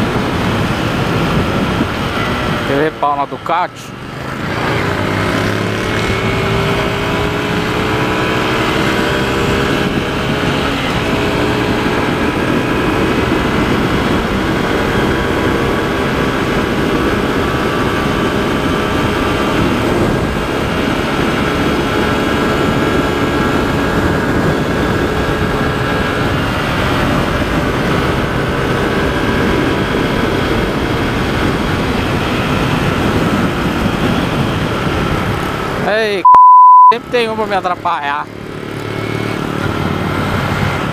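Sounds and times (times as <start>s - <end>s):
wind rushing over microphone: 0.0s - 36.3s, 38.4s - 40.9s.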